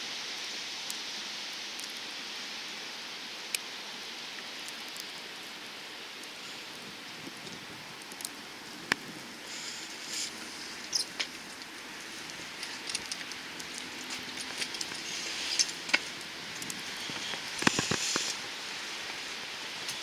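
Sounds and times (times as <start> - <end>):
wet snow falling hiss: 0.0 - 20.0.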